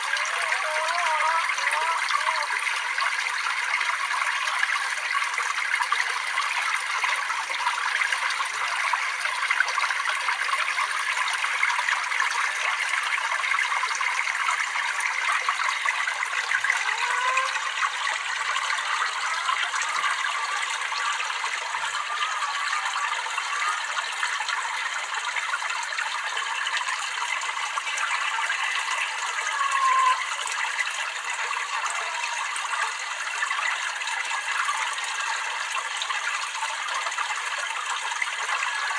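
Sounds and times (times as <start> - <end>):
water gurgles: 0.0 - 38.9
water trickling and splashing: 0.0 - 38.9.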